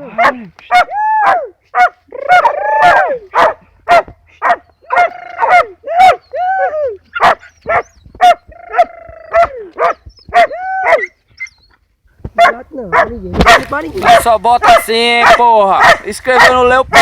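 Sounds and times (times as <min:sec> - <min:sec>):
dog barking and baying: 0:00.0 - 0:11.6, 0:12.3 - 0:17.0.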